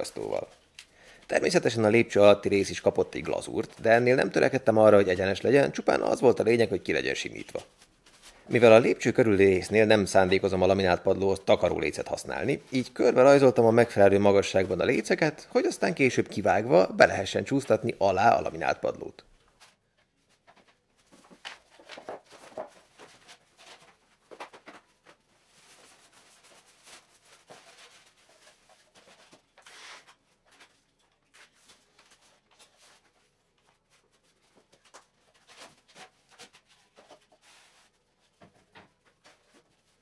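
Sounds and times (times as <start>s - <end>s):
plastic wrapping rustling: 6.9s - 40.0s.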